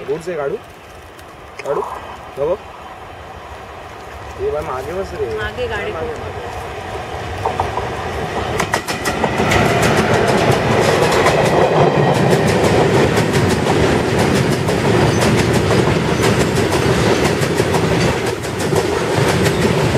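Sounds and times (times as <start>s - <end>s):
freight train rumbling past: 2.0s - 19.9s
wheels clicking over rail joints: 3.8s - 19.9s.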